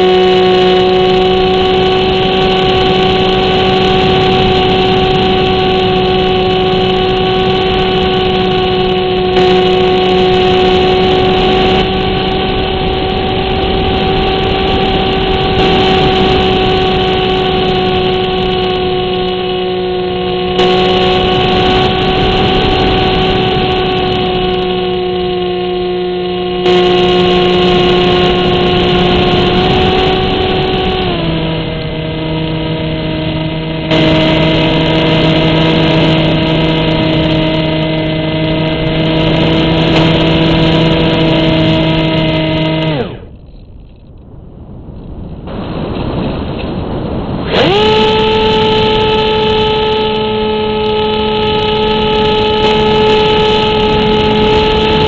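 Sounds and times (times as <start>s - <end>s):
model plane motor whine: 0.0s - 44.3s, 45.0s - 55.0s
wind rush: 0.0s - 55.0s.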